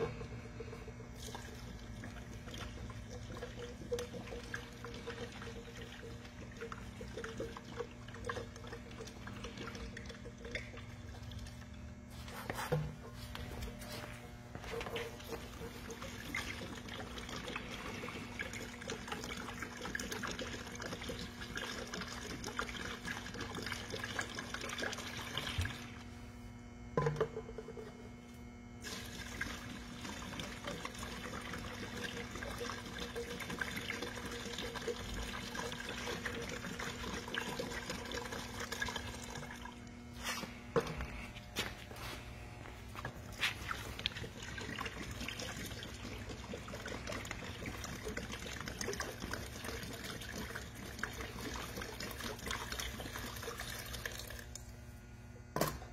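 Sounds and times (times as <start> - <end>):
liquid pouring into plastic tub: 0.0 - 26.1, 28.8 - 41.2, 42.7 - 54.7.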